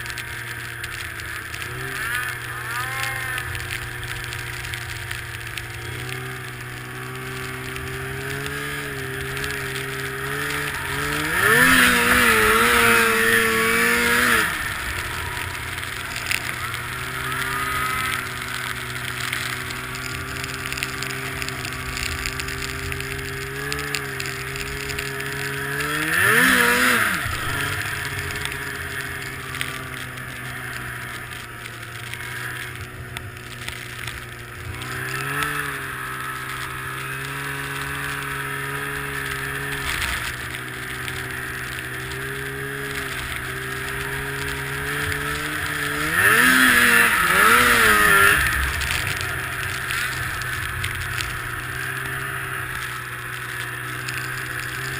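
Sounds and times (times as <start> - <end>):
snowmobile engine revving: 0.0 - 54.9.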